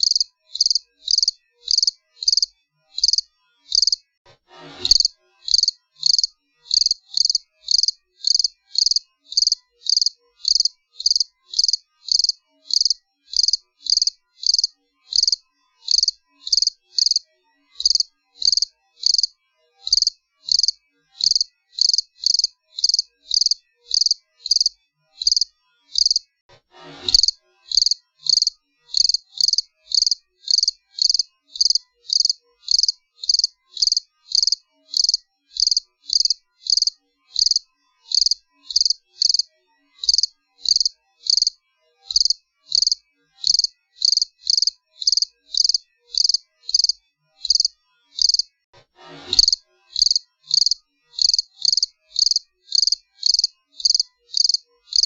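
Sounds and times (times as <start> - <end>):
cricket chirping: 0.0 - 4.0, 4.9 - 17.2, 17.8 - 19.3, 19.9 - 26.2, 27.1 - 48.5, 49.4 - 55.0.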